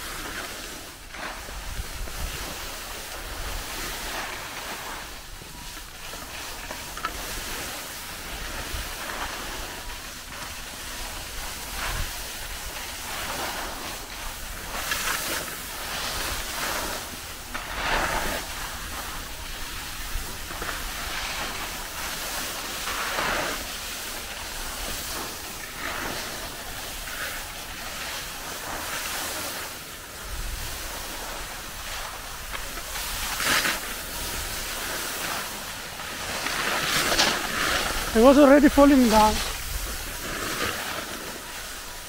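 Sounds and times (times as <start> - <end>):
skis carving on packed snow: 0.0 - 42.0.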